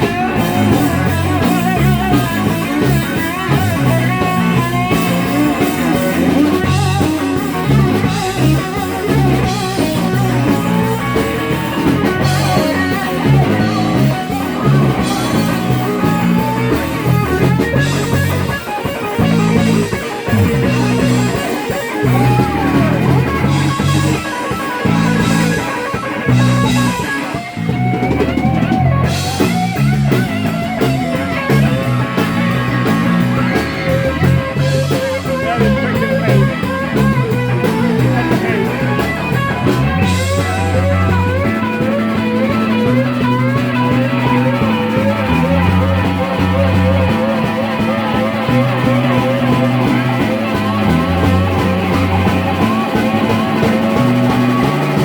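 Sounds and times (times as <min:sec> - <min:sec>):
bass guitar: 0:00.0 - 0:55.0
drum kit with cymbals: 0:00.0 - 0:55.0
electric guitar lead: 0:00.0 - 0:55.0.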